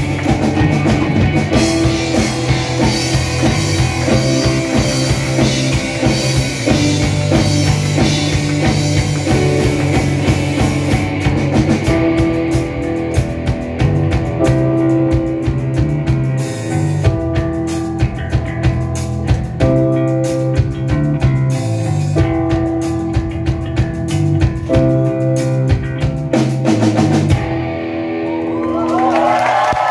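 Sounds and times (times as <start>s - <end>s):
steady drum beat: 0.0s - 27.6s
live rock band playing: 0.0s - 29.9s.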